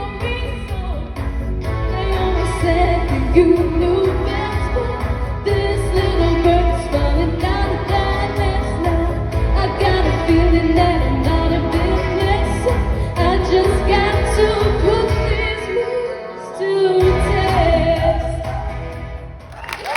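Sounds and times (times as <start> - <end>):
band accompaniment with bass: 0.0 - 15.7, 17.0 - 19.9
woman singing pop song: 0.0 - 19.4.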